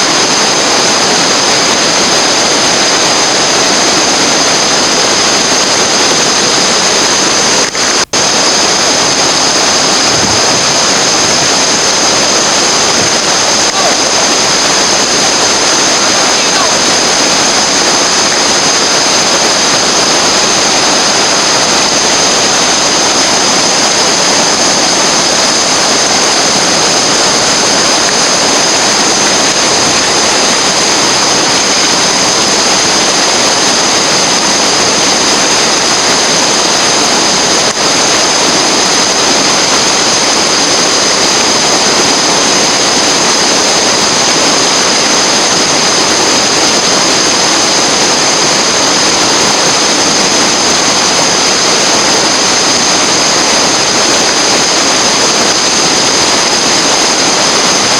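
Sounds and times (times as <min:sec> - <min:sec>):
rushing river water: 0:00.0 - 0:57.9.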